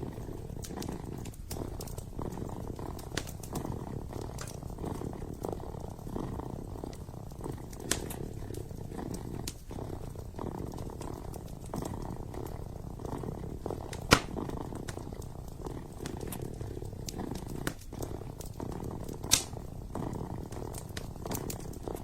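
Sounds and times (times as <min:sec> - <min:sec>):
kitten purring: 0:00.0 - 0:22.0
wood fire crackling: 0:00.0 - 0:22.0.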